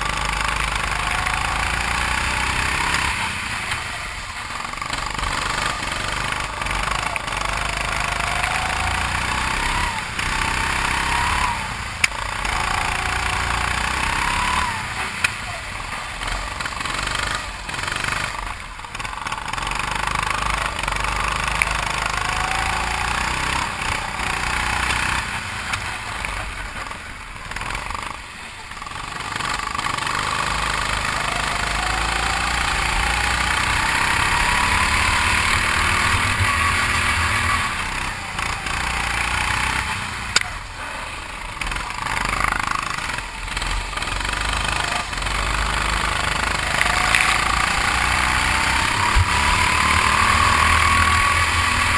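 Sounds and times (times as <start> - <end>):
go-kart engine accelerating: 0.0 - 51.9.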